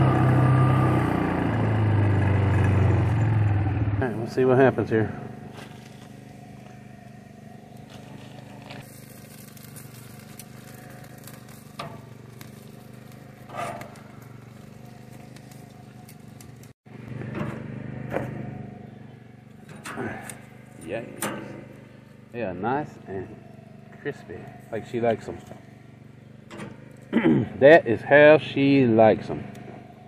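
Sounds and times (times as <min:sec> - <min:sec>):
low engine hum: 0:00.0 - 0:30.0
fire crackling: 0:03.5 - 0:28.6.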